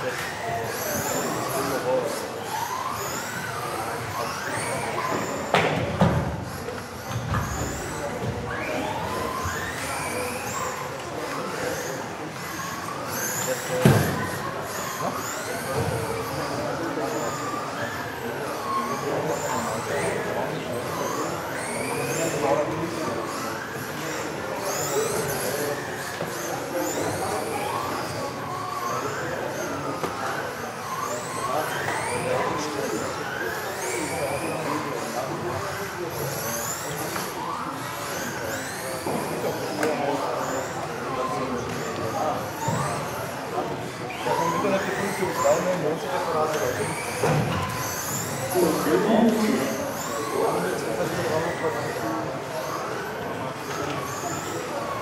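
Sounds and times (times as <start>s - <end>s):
rc car motors whining: 0.0s - 55.0s.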